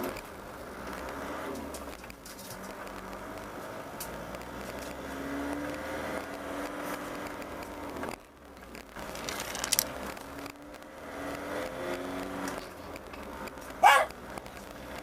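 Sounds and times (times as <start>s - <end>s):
motor vehicle engine running: 0.0s - 15.0s.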